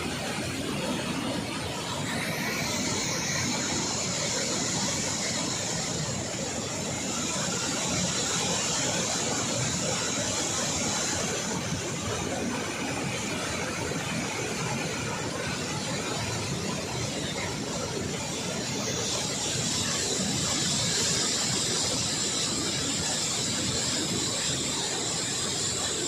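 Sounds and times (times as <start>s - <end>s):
water roaring from dam spillway: 0.0s - 26.0s.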